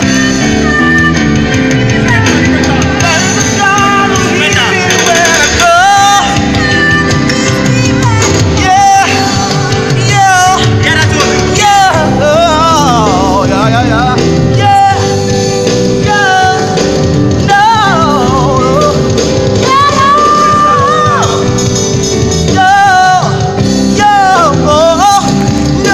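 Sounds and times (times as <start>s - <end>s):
gospel band playing: 0.0s - 25.9s.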